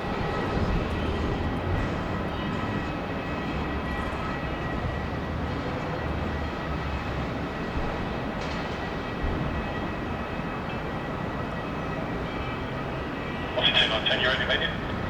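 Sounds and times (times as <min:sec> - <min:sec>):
jet engines whining and rumbling: 0:00.0 - 0:15.0.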